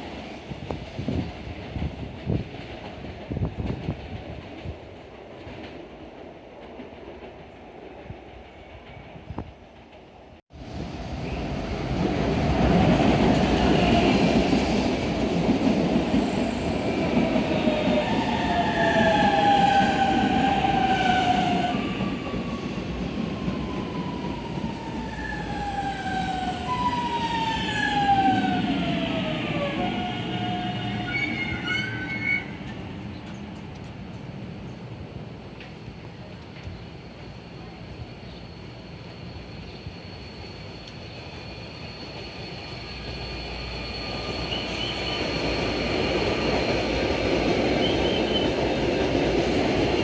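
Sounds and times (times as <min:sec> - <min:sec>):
electric train rumble: 0:00.0 - 0:50.0.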